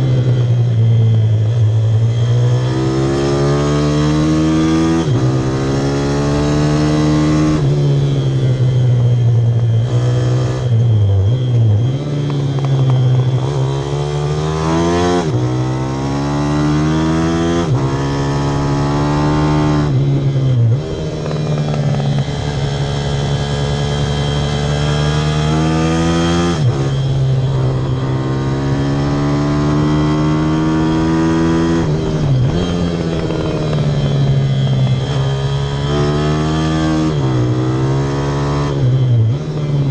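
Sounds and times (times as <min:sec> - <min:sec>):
small motorcycle engine revving: 0:00.0 - 0:39.9.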